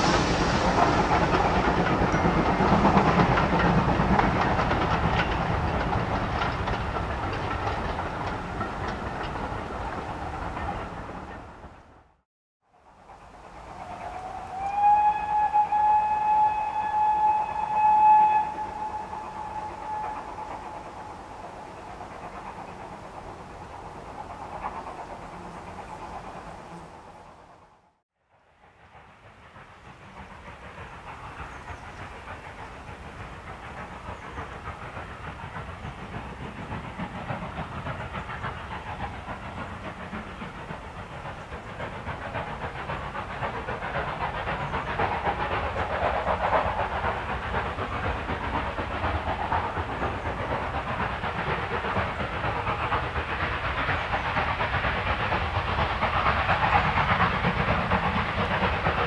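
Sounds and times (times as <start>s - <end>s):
steam locomotive chuffing: 0.0s - 12.1s, 12.8s - 59.0s.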